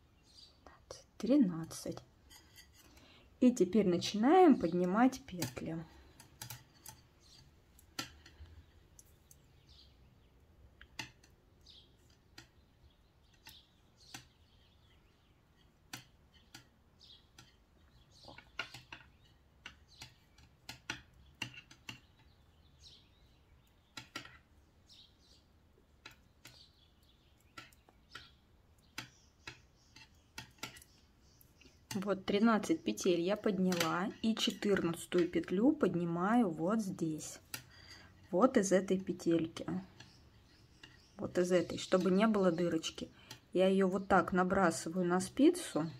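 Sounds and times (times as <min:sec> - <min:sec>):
knitting needles clicking: 0:03.8 - 0:09.7, 0:10.4 - 0:14.4, 0:15.6 - 0:24.5, 0:25.2 - 0:45.9.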